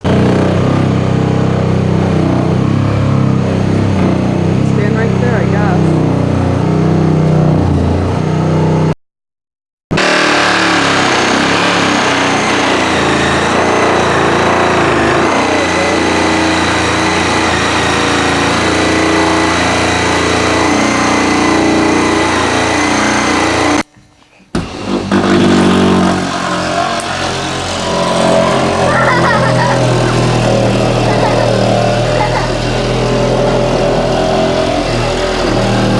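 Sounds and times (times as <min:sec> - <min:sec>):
power saw cutting through wall: 0:00.0 - 0:08.9, 0:09.9 - 0:23.9, 0:24.5 - 0:35.9.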